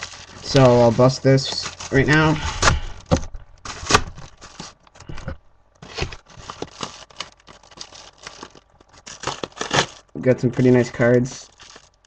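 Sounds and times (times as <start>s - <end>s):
package paper tearing and crinkling: 0.0s - 5.2s, 5.8s - 12.0s.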